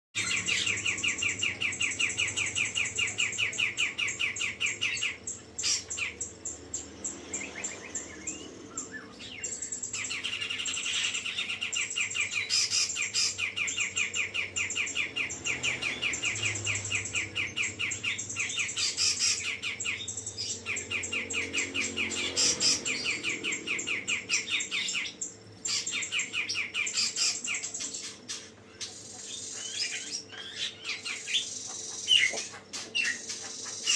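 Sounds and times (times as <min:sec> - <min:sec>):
bird chattering song with trills: 0:00.2 - 0:33.9.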